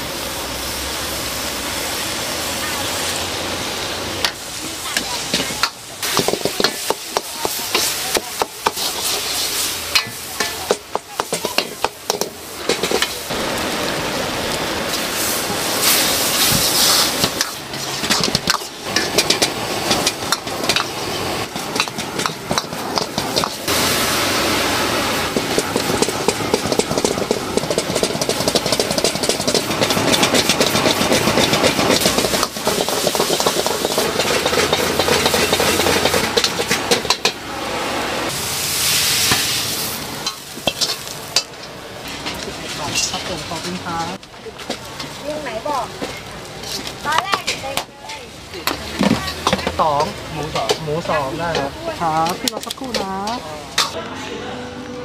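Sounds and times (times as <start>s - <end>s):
meat sizzling in a wok: 0.0s - 54.0s
ladle scraping and clanking on wok: 2.4s - 13.7s, 14.8s - 37.7s, 38.3s - 54.0s.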